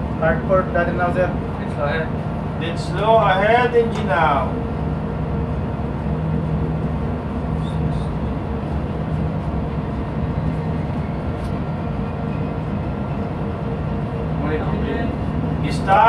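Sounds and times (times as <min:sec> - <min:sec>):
ship engine droning: 0:00.0 - 0:16.0.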